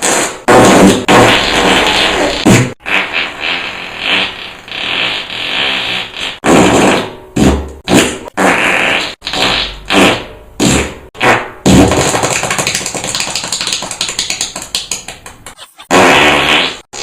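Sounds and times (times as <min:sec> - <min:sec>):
fart sounds: 0:00.0 - 0:17.0.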